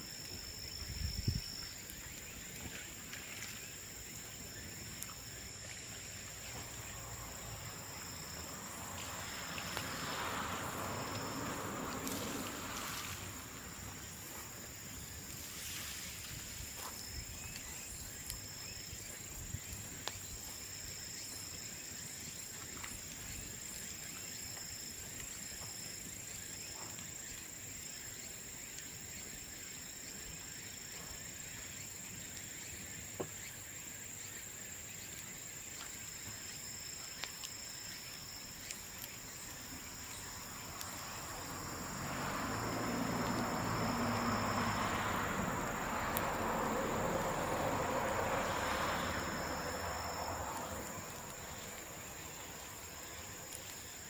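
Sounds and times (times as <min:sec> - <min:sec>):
bonfire crackling: 0:00.0 - 0:29.5, 0:34.8 - 0:54.0
insects chirring: 0:00.0 - 0:54.0.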